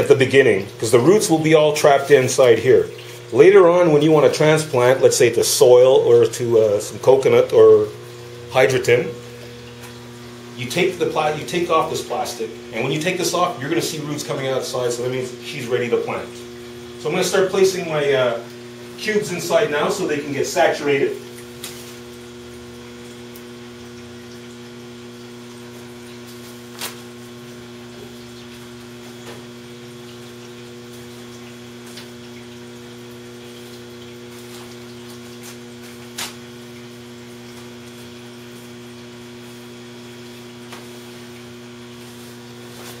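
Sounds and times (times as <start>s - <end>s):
pump mains hum: 0.0s - 43.0s.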